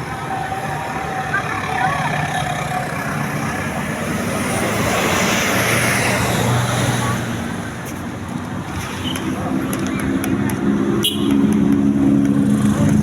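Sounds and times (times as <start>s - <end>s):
bus engine humming: 0.0s - 13.0s
people chattering: 0.0s - 13.0s
road noise: 0.0s - 13.0s.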